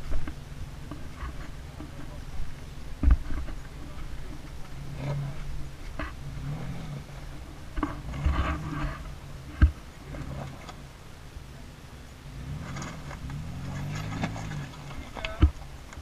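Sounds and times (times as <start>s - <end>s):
car engine crawling over rocks: 0.0s - 16.0s.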